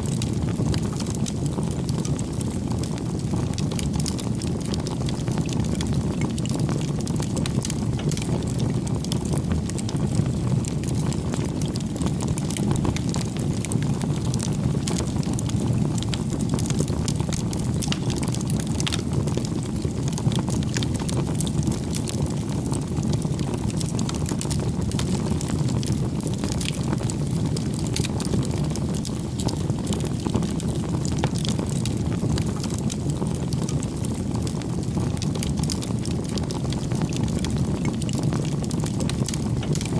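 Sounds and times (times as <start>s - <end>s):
burning wood crackling and popping: 0.0s - 39.9s
wood fire low rumble: 0.0s - 39.9s.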